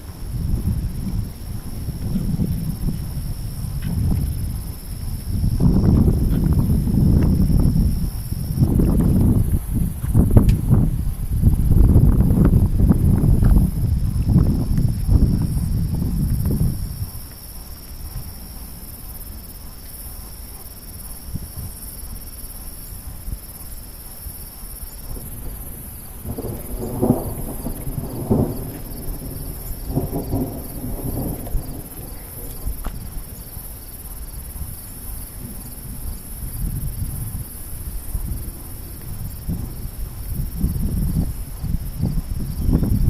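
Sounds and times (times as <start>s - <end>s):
thunder rumbling: 0.0s - 18.9s, 24.8s - 43.0s.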